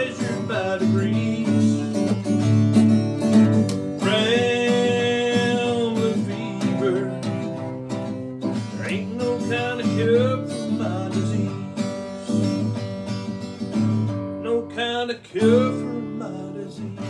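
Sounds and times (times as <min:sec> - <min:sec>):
man singing country song: 0:00.0 - 0:03.0, 0:03.8 - 0:12.8, 0:14.3 - 0:17.0
acoustic guitar strumming: 0:00.0 - 0:17.0.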